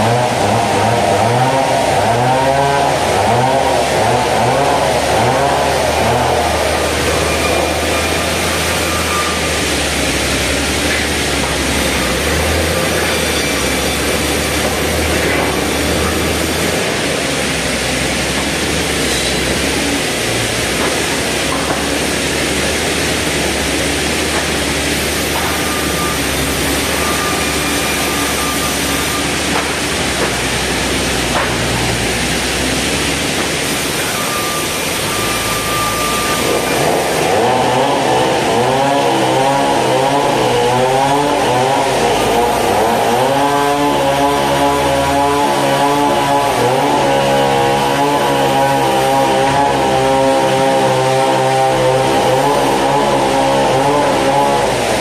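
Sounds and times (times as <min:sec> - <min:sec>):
saw blade cutting wood: 0:00.0 - 0:55.0
sawmill machinery running: 0:00.0 - 0:55.0.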